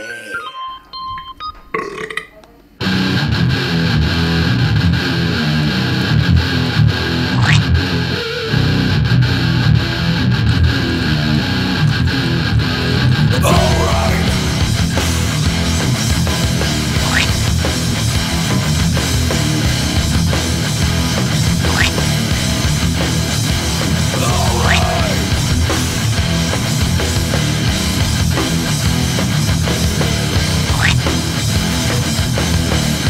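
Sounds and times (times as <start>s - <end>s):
loud guitar rock music: 2.8s - 33.0s.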